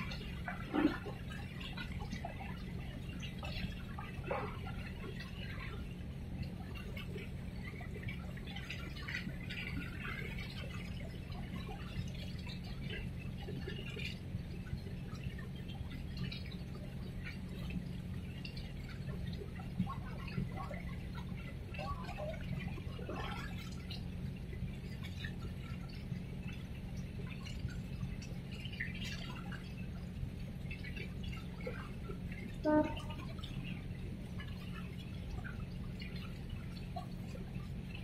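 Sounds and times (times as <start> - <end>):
steady low hum: 0.0 - 38.0
water lapping and sloshing: 0.0 - 38.0.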